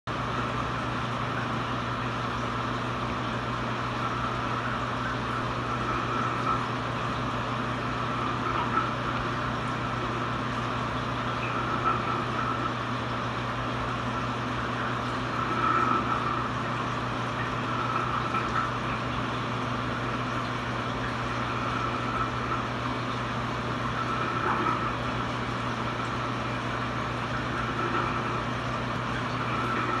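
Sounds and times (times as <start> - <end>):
aquarium pump humming: 0.1 - 30.0.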